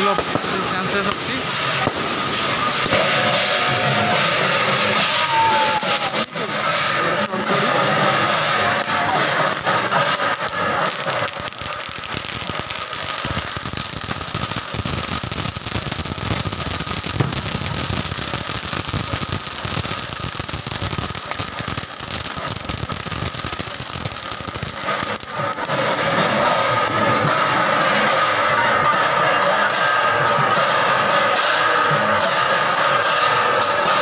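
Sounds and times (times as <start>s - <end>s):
firework crackling hiss: 0.0s - 34.0s.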